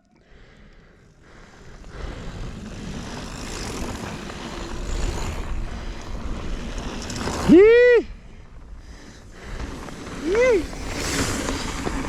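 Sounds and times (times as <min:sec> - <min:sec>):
bike tyres on dirt trail: 0:00.2 - 0:12.0
wind rushing over microphone: 0:01.4 - 0:12.0.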